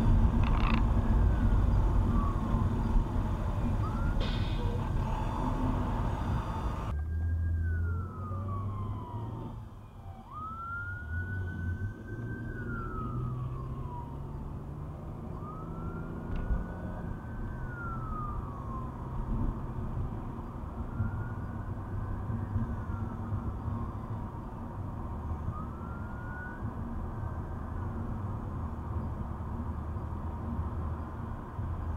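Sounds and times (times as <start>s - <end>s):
emergency siren wailing: 0.0s - 27.7s
road noise inside a car: 0.0s - 31.9s.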